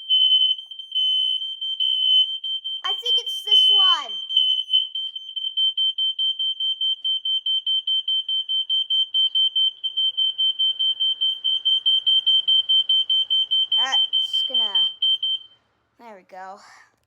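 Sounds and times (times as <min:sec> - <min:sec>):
smoke alarm pulsing tone: 0:00.0 - 0:15.6.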